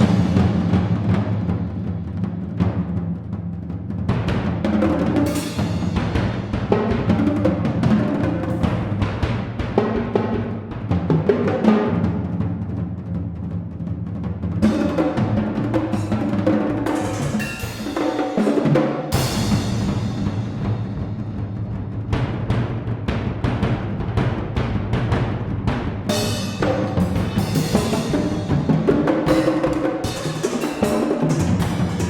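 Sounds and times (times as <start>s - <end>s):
drums playing: 0.0s - 32.0s.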